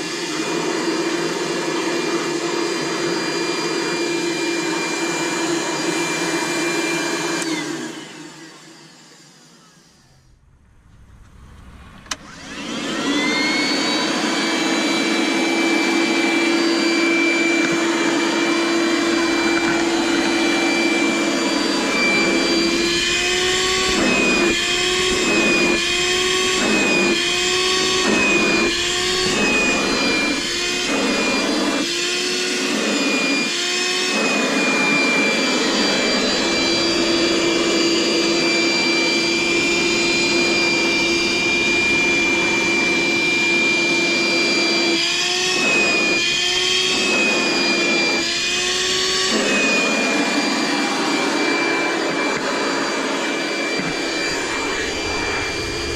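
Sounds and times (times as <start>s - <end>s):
wet-dry vacuum whining: 0.0s - 55.9s.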